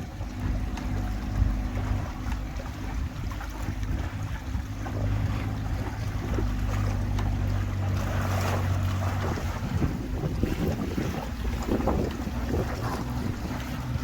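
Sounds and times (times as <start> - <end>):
boat engine humming: 0.0 - 14.0
water washing past hull: 0.0 - 14.0
wind noise on microphone: 0.0 - 14.0.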